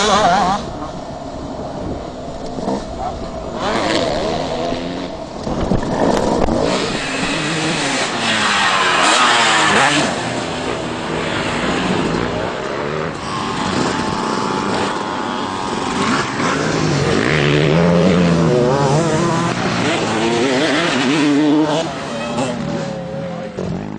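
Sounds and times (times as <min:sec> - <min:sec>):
motocross bike engine revving: 0:00.0 - 0:01.1, 0:02.5 - 0:23.9.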